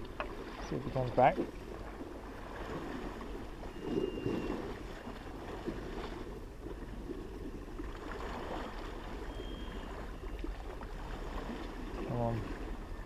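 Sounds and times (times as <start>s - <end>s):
sea washing against a wall: 0.0s - 13.0s
wind on microphone: 0.0s - 13.0s.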